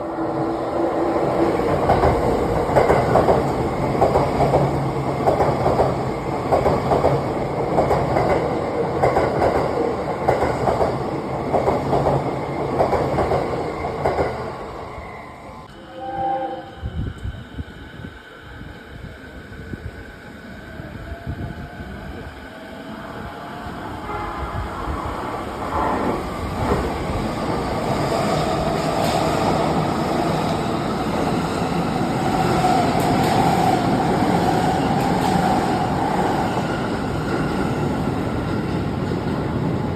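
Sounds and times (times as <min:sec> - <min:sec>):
train wheels rumbling on rails: 0:00.0 - 0:15.0, 0:15.6 - 0:39.9
electric train whine: 0:00.0 - 0:39.9.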